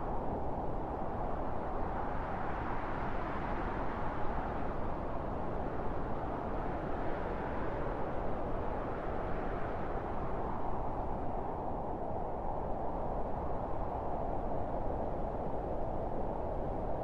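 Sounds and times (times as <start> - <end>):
wind blowing steadily: 0.0 - 17.0.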